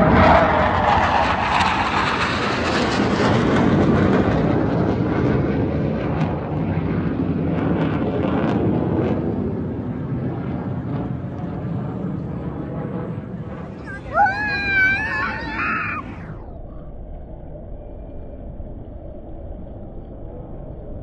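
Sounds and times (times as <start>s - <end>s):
jet engine passing overhead: 0.0s - 21.0s.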